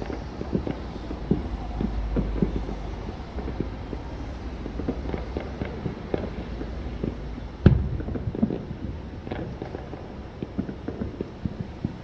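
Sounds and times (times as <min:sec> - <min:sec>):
low steady rumble: 0:00.0 - 0:11.4
distant fireworks popping: 0:00.0 - 0:12.0.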